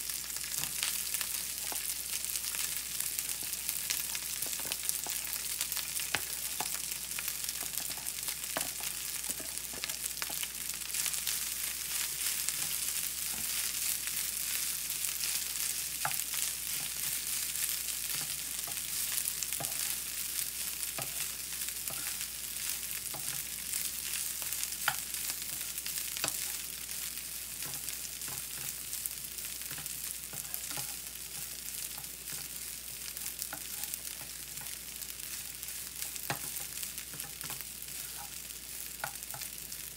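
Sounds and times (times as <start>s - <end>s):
rice sizzling in oil: 0.0s - 39.9s
spatula tapping and scraping pan: 0.5s - 2.6s, 3.2s - 28.9s, 29.6s - 39.6s.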